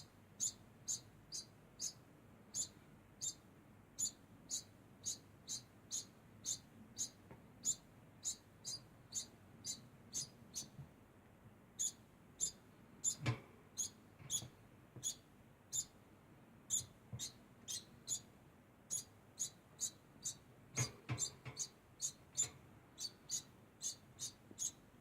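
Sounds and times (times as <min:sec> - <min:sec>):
degu chirping squeaks: 0:00.0 - 0:03.4, 0:04.0 - 0:10.8, 0:11.8 - 0:16.0, 0:16.7 - 0:18.3, 0:18.9 - 0:24.8.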